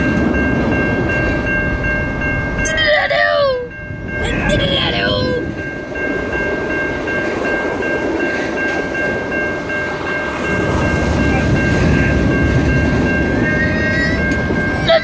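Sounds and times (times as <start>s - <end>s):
high-pitched tone: 0.0s - 15.0s
train cars rumbling on rails: 0.0s - 15.0s.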